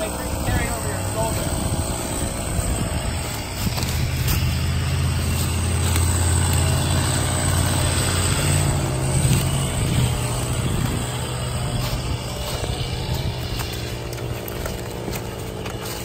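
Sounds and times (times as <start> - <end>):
chainsaw idling: 0.0 - 16.0.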